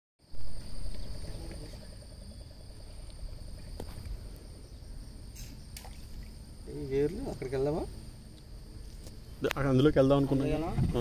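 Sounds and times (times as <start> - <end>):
insects chirring: 0.2 - 11.0.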